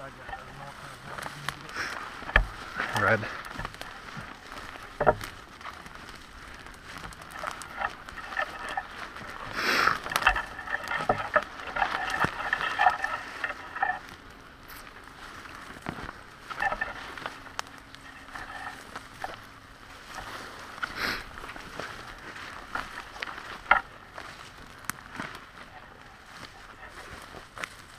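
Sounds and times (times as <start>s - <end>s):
footsteps through dry grass: 0.0s - 27.9s.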